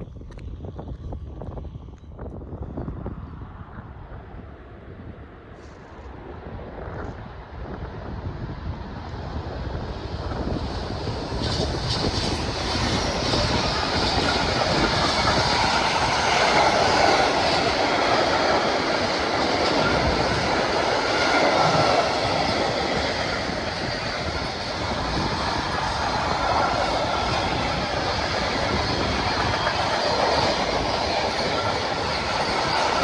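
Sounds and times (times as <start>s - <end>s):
train wheels rumbling on track: 5.6s - 33.0s.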